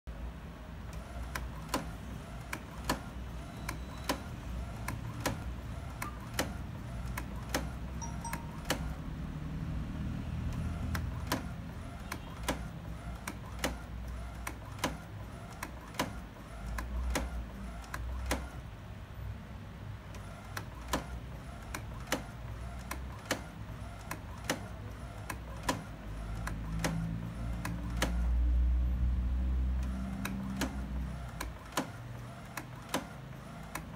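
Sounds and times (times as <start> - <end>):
printer motor humming: 0.6 - 18.8, 20.0 - 28.6, 29.3 - 33.9
printer mechanism clicking: 0.8 - 9.0, 10.4 - 18.7, 20.0 - 28.4, 29.7 - 33.9.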